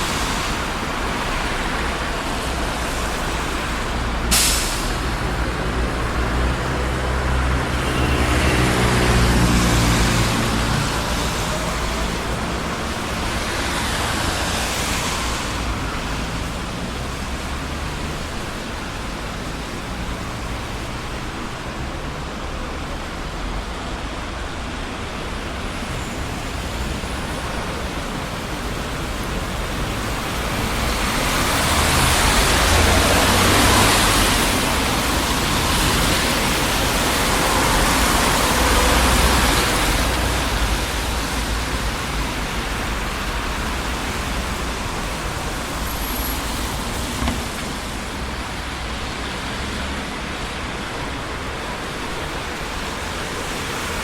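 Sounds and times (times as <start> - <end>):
city traffic passing: 0.0 - 54.0.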